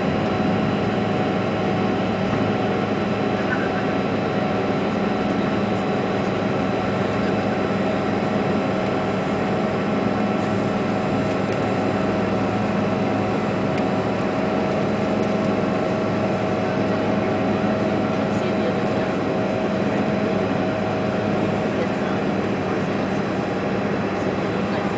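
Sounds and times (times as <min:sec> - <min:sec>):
jet cabin engine drone: 0:00.0 - 0:24.9
steady humming tones: 0:00.0 - 0:24.9.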